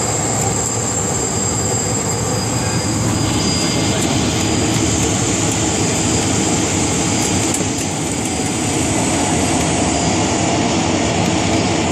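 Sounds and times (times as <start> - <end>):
aircraft engine and propeller noise: 0.0 - 11.9
faint high whine: 0.0 - 11.9.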